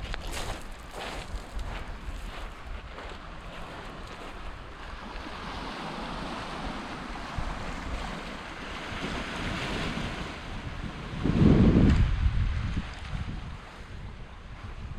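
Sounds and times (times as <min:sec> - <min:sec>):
sea breeze: 0:00.0 - 0:14.9
wind buffeting microphone: 0:00.0 - 0:14.9
gentle sea waves washing: 0:00.2 - 0:14.9.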